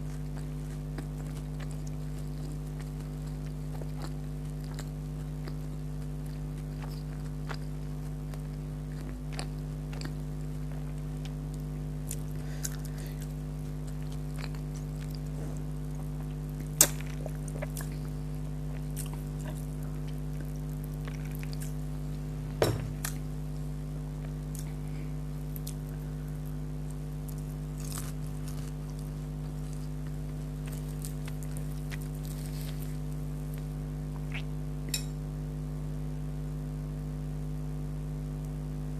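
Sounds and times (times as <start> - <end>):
crunchy chewing clicks: 0.0 - 22.2, 24.2 - 24.8, 25.5 - 35.0
electrical hum: 0.0 - 38.9.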